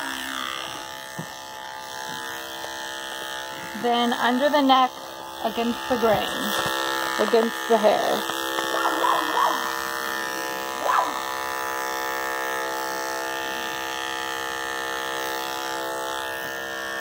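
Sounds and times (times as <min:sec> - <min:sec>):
electric clippers buzzing: 0:00.0 - 0:17.0.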